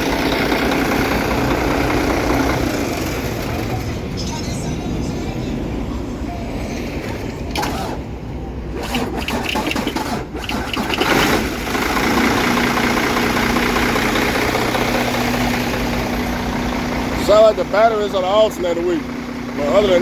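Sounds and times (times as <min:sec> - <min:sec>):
diesel engine idling: 0:00.0 - 0:20.0
diesel truck engine cranking: 0:00.0 - 0:20.0.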